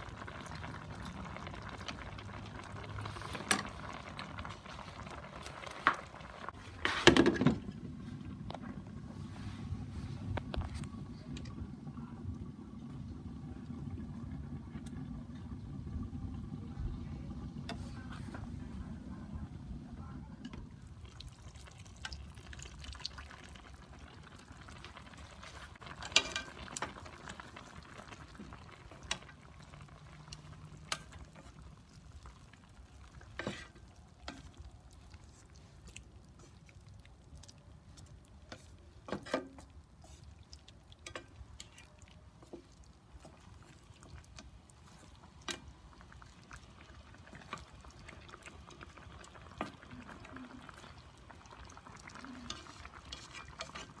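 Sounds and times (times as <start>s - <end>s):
sauce bubbling in a skillet: 0.0s - 54.0s.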